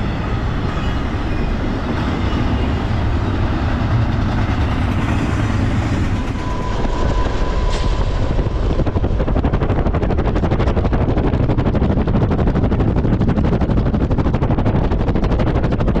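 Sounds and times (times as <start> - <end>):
freight train rumbling and rattling: 0.0 - 16.0.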